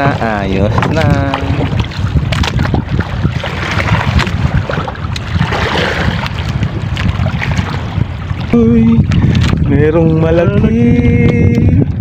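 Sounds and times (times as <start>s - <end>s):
water sloshing against boat hull: 0.0s - 12.0s
wind buffeting microphone: 0.0s - 12.0s.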